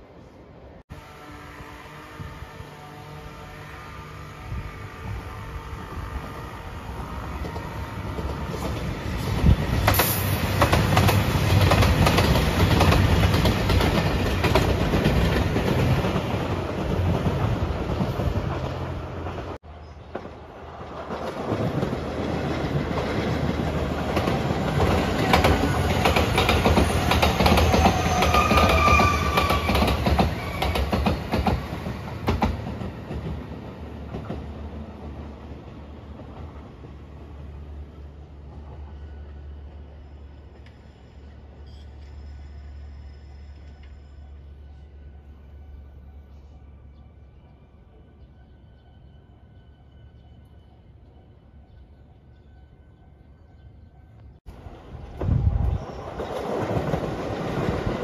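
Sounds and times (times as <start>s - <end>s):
train rumbling past: 0.0s - 58.0s
train whining tone: 0.9s - 20.2s, 22.7s - 58.0s.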